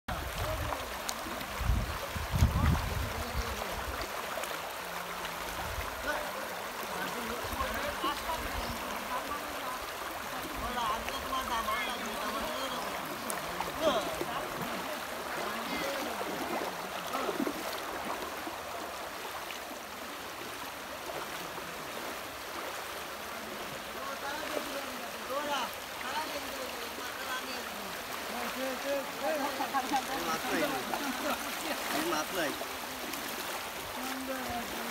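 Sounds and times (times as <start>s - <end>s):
floodwater rushing and splashing: 0.1s - 34.9s
people wading through water: 0.1s - 34.9s.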